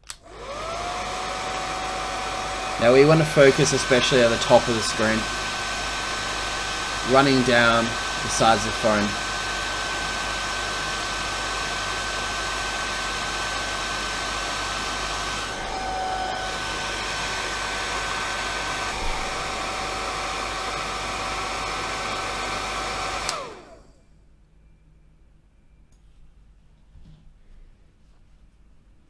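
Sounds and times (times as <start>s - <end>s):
heat gun blowing with whine: 0.1s - 23.9s.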